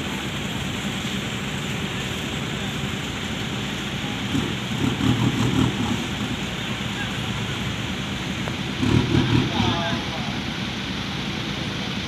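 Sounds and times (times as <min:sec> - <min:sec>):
engine noise: 0:00.0 - 0:12.0
voices calling out: 0:00.0 - 0:12.0.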